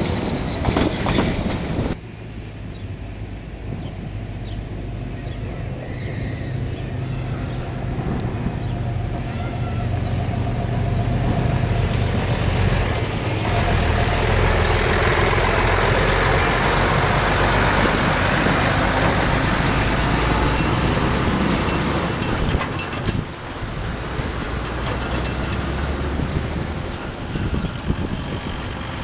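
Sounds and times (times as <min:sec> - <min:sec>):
truck tyre noise: 0:00.0 - 0:29.0
heavy truck engine drone: 0:01.4 - 0:29.0.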